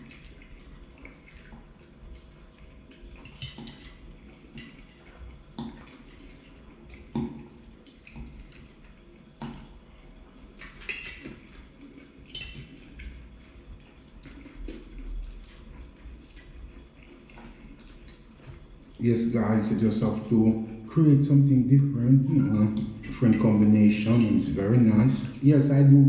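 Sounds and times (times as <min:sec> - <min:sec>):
wet chewing: 0:00.0 - 0:25.9.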